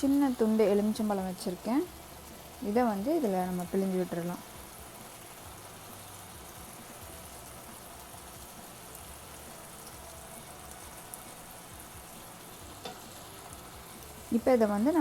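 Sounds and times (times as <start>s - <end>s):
curry bubbling in a pan: 0.1s - 15.0s.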